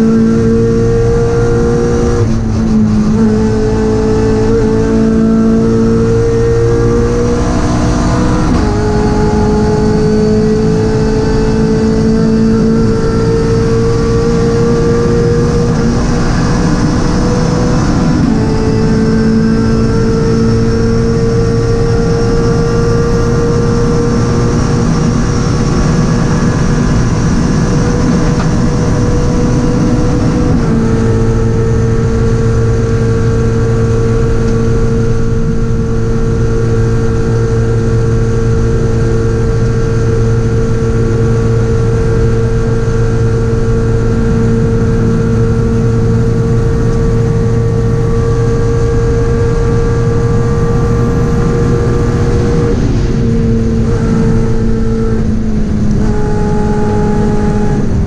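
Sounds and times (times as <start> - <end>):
race car engine at high revs: 0.0 - 58.0
road and wind noise: 0.0 - 58.0.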